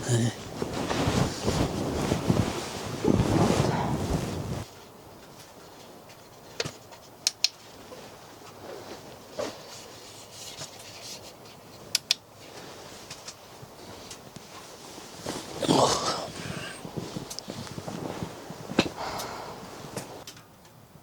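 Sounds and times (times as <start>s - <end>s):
light rubbing and handling noises: 0.0s - 20.3s.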